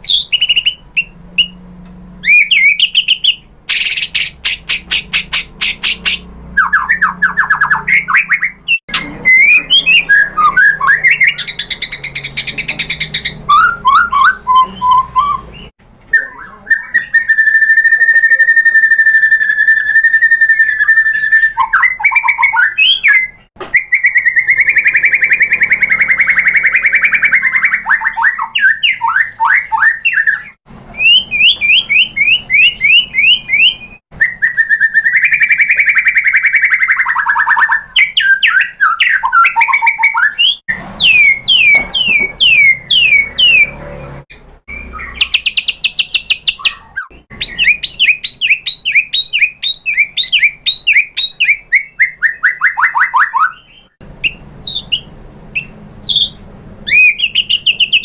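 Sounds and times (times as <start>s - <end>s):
songbird whistling: 0.0s - 1.6s, 2.2s - 43.8s, 44.7s - 58.0s.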